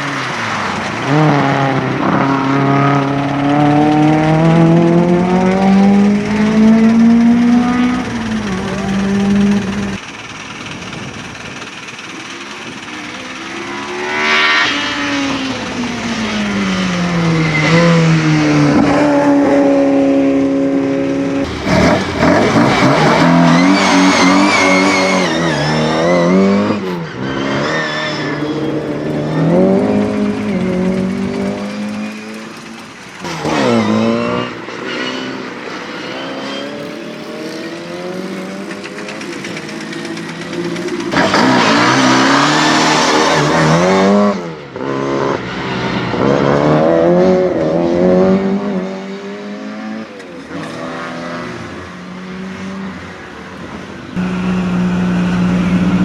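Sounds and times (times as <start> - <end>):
racing car engine revving: 0.0 - 53.3.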